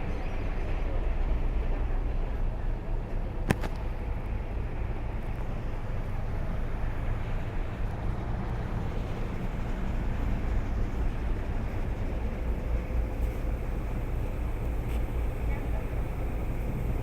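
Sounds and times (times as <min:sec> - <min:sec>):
ship rumbling at sea: 0:00.0 - 0:17.0.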